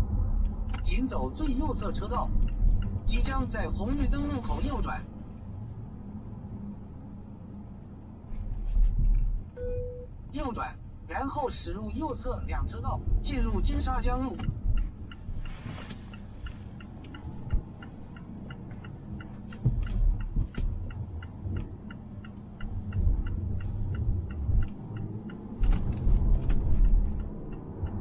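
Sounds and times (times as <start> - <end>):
turn signal ticking: 0.0 - 8.1, 9.0 - 28.0
car rumble: 0.0 - 28.0.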